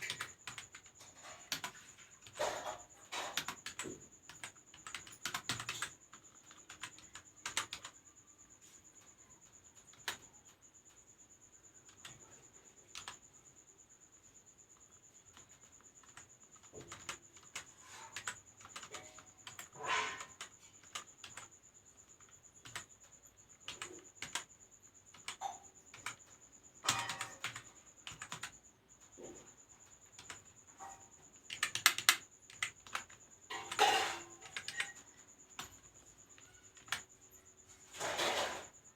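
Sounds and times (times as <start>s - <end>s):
typing on computer keyboard: 0.0s - 8.0s, 9.3s - 10.5s, 11.8s - 13.4s, 14.8s - 37.2s.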